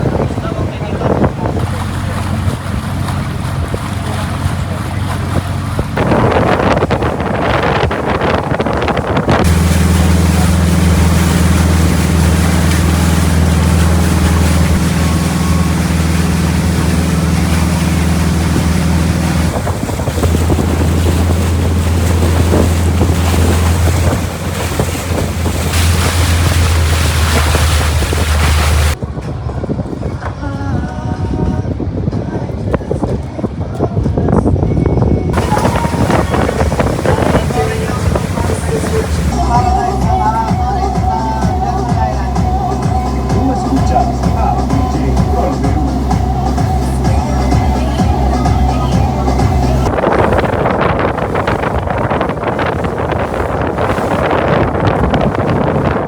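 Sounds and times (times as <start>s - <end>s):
water rushing past hull: 0.0s - 33.7s, 35.3s - 56.0s
motorboat engine humming: 0.0s - 56.0s
wind buffeting microphone: 0.0s - 56.0s.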